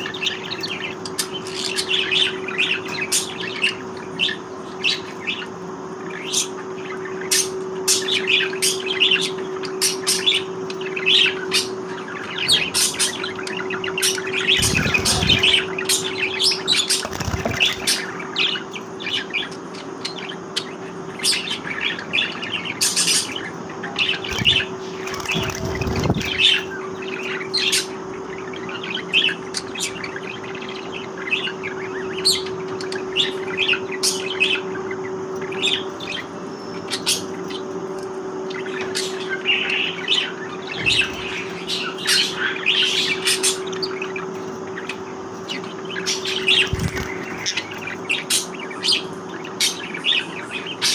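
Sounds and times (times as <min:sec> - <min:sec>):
budgerigars chirping and chattering: 0:00.0 - 0:50.9
steady low hum: 0:00.0 - 0:50.9.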